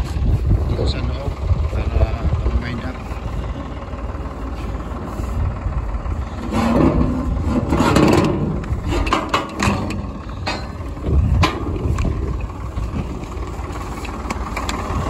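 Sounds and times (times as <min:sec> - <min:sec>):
rattling and scraping: 0:00.0 - 0:15.0
vehicle engine running: 0:00.0 - 0:15.0.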